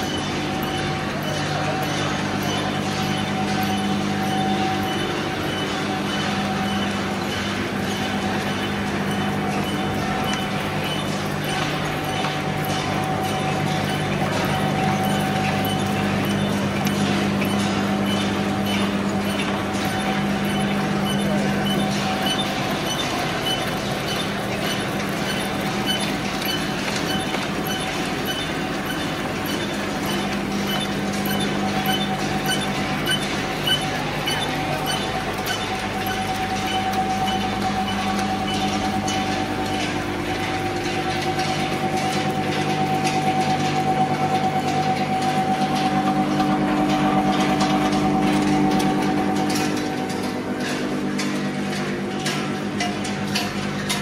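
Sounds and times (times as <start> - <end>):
machine hum: 0.0 - 54.0
mechanical clatter: 0.0 - 54.0.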